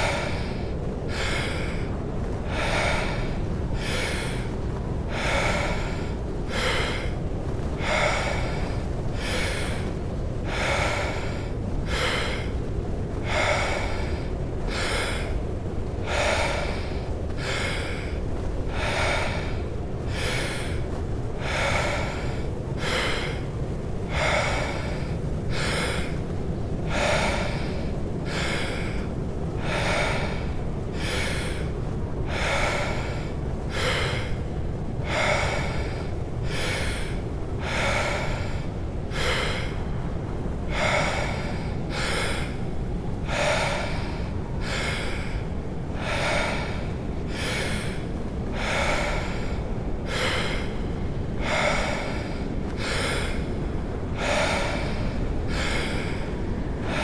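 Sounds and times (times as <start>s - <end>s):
deep forceful breathing: 0.0s - 57.0s
snowstorm wind: 0.0s - 57.0s.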